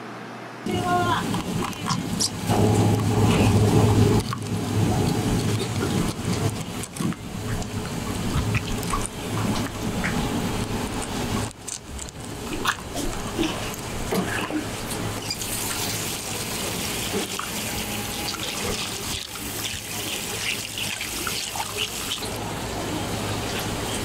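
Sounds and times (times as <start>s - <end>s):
running tap water: 0.7s - 24.0s.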